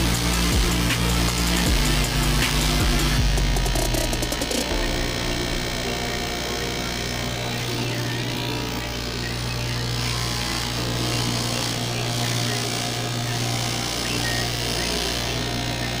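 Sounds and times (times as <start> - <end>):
cloth cutting machine humming: 0.0 - 16.0.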